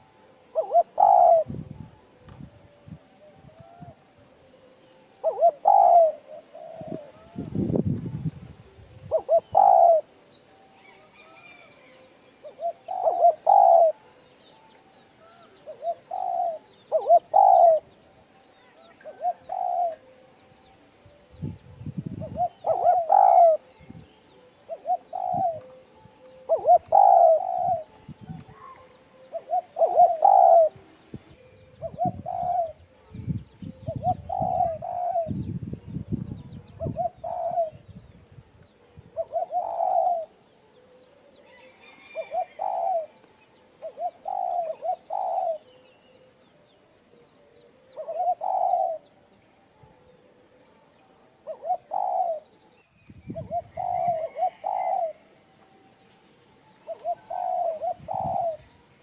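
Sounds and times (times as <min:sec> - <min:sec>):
dove cooing: 0:00.0 - 0:02.3, 0:04.6 - 0:14.3, 0:15.2 - 0:17.9, 0:18.6 - 0:20.3, 0:21.1 - 0:52.6, 0:53.3 - 0:55.5, 0:56.7 - 0:58.9.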